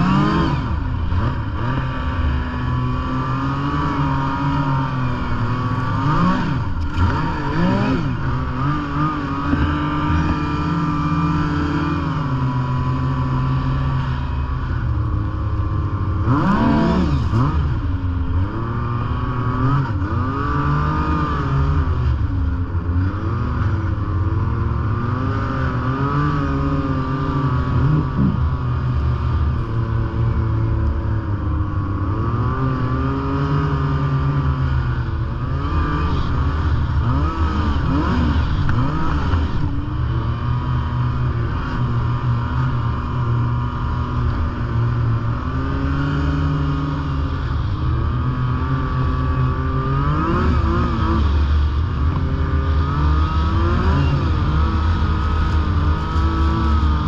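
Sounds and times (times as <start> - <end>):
snowmobile engine revving: 0.0 - 57.0
snowmobile engine running: 0.0 - 57.0.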